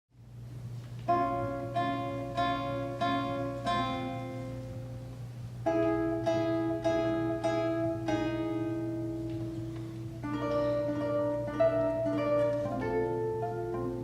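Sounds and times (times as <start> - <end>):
classical guitar plucked chords: 0.6 - 14.0.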